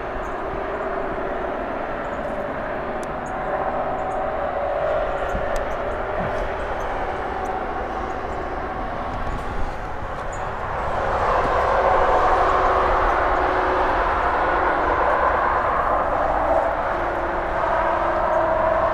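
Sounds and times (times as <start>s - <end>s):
traffic rumble and hiss: 0.0s - 18.9s.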